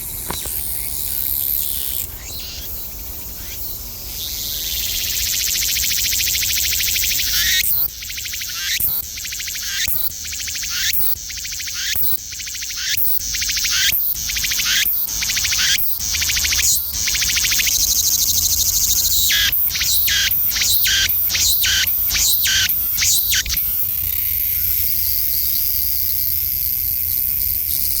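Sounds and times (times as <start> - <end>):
cicada buzzing: 0.0 - 28.0.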